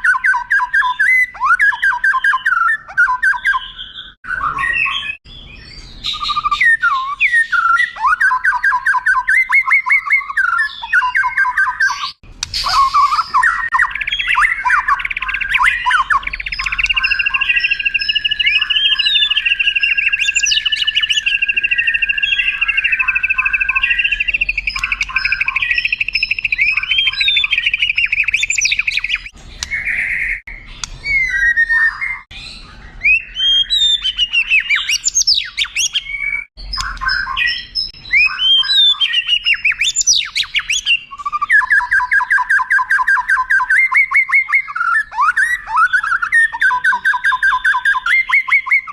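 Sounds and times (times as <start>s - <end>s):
songbird singing trills and whistles: 0.0s - 48.9s.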